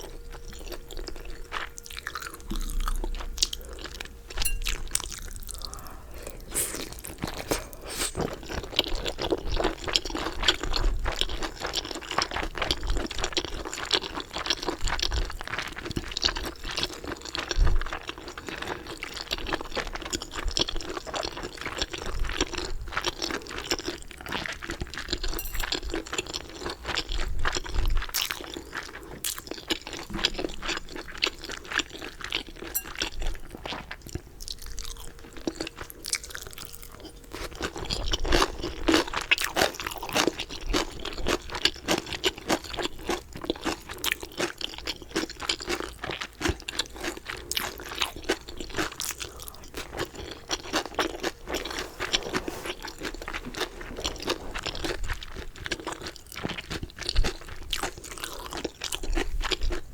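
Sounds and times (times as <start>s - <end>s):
fried chicken crunching: 0.1s - 59.9s.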